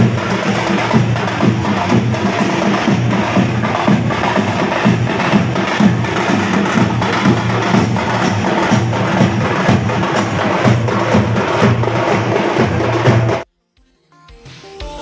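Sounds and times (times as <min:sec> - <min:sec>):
parade snare and bass drums: 0:00.0 - 0:13.4.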